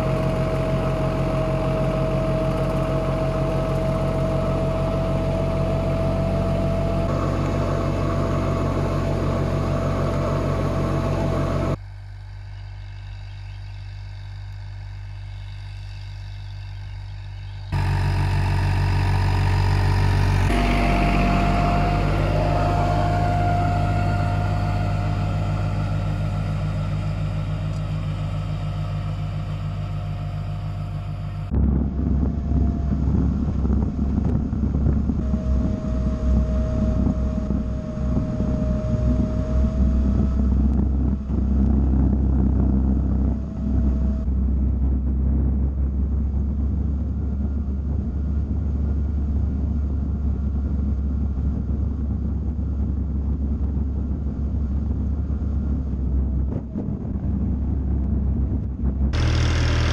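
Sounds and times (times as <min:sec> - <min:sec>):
high whine: 0:00.0 - 0:59.9
tractor diesel engine running: 0:00.0 - 0:59.9.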